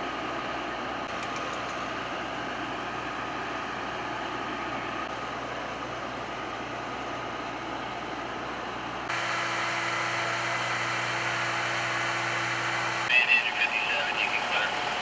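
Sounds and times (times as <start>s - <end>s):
engines idling: 0.0s - 15.0s.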